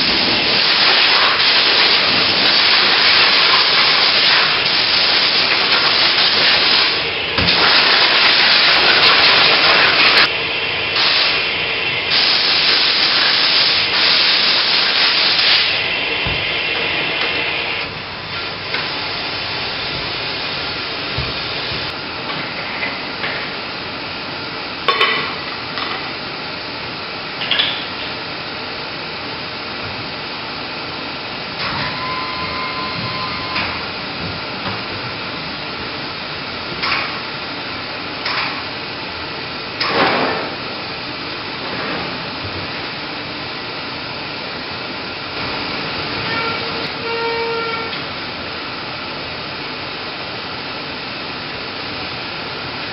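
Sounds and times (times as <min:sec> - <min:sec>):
ventilation hiss: 0:00.0 - 0:52.9.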